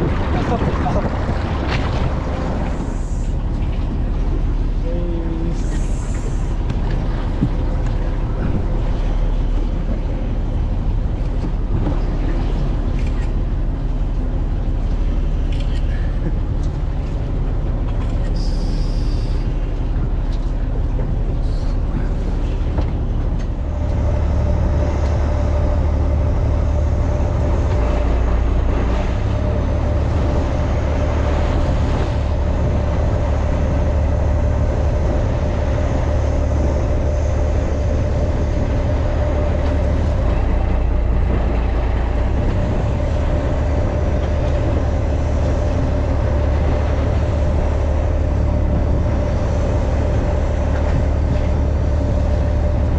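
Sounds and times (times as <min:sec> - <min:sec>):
boat engine rumbling: 0:00.0 - 0:52.9
steady whine: 0:00.0 - 0:52.9.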